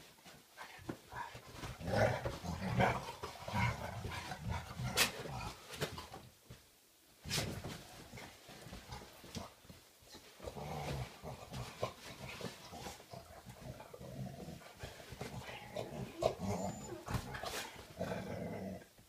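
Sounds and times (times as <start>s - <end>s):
paws scuffling on blankets: 0.0s - 16.1s, 16.7s - 18.0s
dogs play growling: 1.1s - 6.2s, 7.4s - 19.0s.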